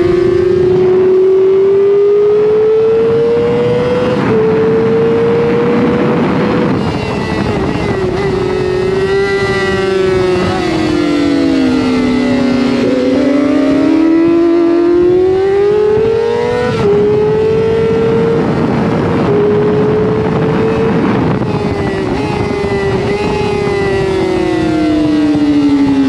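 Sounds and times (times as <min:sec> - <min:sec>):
motorcycle engine revving high: 0:00.0 - 0:26.0.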